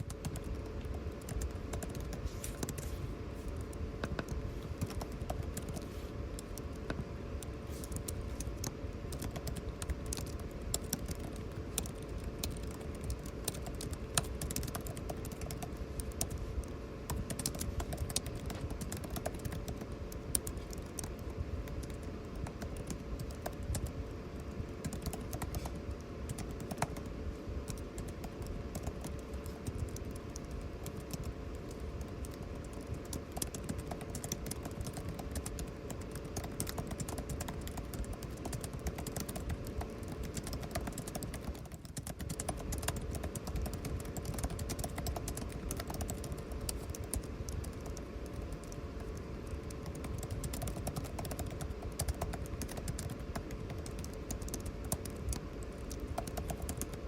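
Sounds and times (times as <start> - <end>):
air-conditioning hum: 0.0 - 57.0
computer keyboard typing: 0.0 - 57.0.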